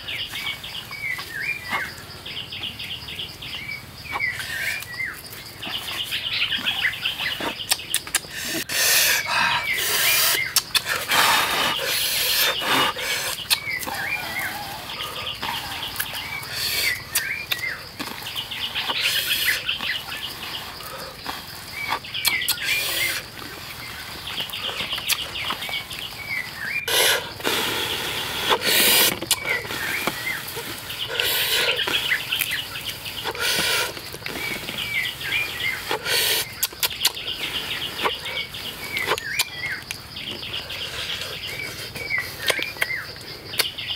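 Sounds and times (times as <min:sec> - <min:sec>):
bird chirping: 0:00.0 - 0:43.9
insect buzz: 0:00.0 - 0:43.9.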